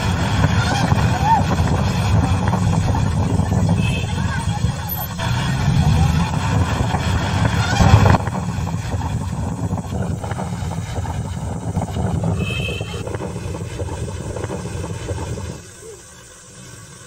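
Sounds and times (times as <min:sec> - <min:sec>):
wind buffeting microphone: 0:00.0 - 0:15.8
car engine rumbling: 0:00.0 - 0:17.0.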